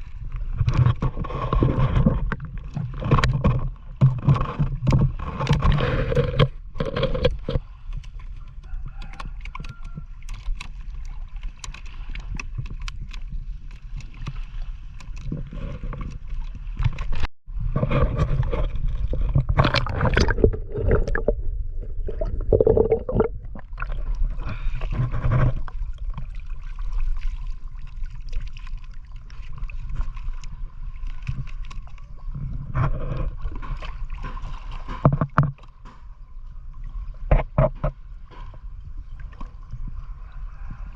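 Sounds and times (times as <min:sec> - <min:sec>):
water splashing against boat: 0:00.0 - 0:40.9.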